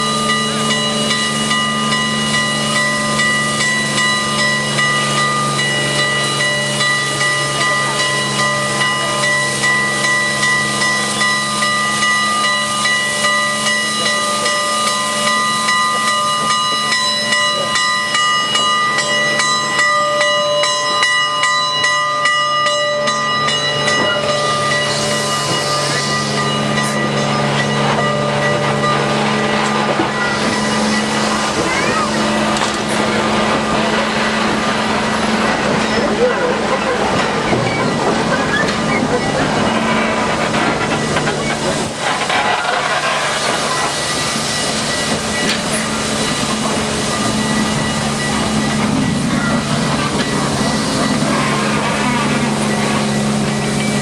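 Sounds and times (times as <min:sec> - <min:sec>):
steam locomotive hissing steam: 0:00.0 - 0:21.1, 0:22.9 - 0:54.0.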